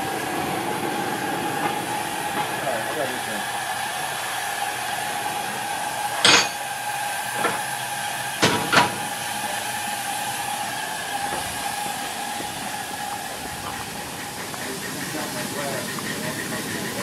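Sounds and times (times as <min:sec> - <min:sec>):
steam hiss with whistling tone: 0:00.0 - 0:17.0.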